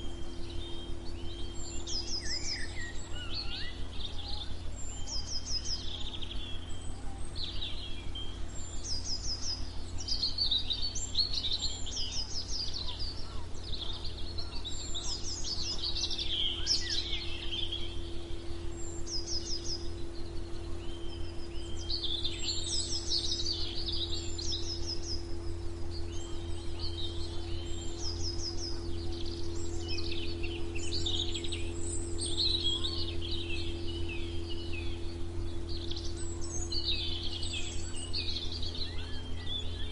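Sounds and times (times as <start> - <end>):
faint constant hum: 0.0 - 39.9
songbirds chirping and trilling: 0.0 - 39.9.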